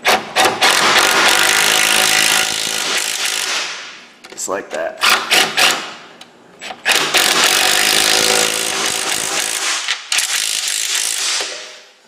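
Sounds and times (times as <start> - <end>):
impact wrench: 0.0 - 4.0, 5.0 - 6.0, 6.6 - 11.8.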